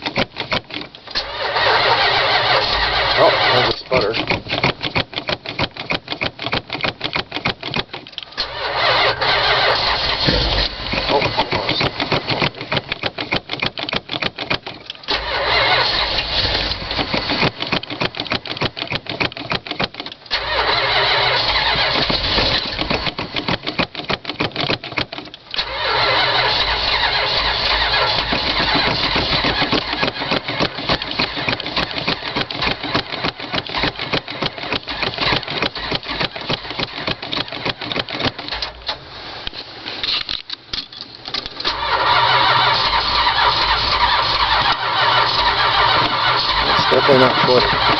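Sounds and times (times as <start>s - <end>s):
engine sputtering: 0.0s - 39.0s, 41.5s - 47.9s
starter motor cranking engine: 0.0s - 39.1s, 41.4s - 47.9s.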